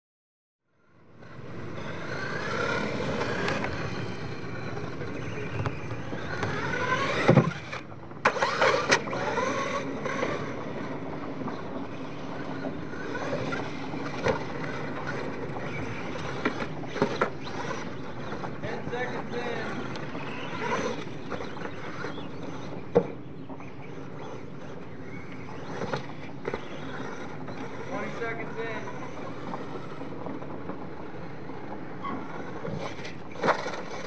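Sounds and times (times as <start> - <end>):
toy truck motor whining: 0.8 - 23.2, 23.8 - 34.0
tyres churning dirt: 1.0 - 34.0.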